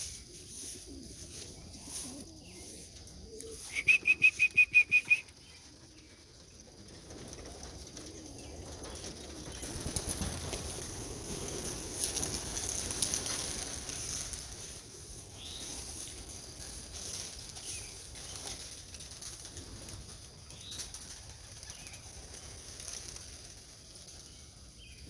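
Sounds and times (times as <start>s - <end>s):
pigeon wings flapping: 3.5s - 24.7s.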